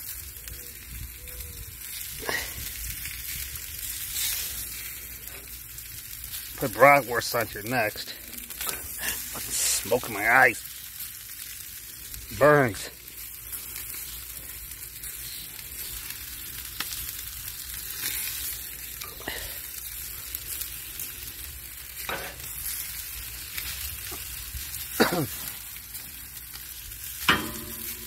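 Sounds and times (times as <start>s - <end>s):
chicken sizzling on a grill: 0.0s - 28.0s.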